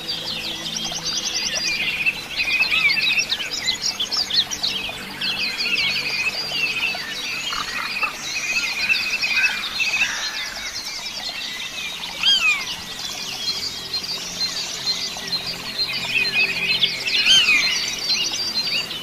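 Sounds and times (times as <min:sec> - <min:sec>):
birds chirping and singing: 0:00.0 - 0:19.0.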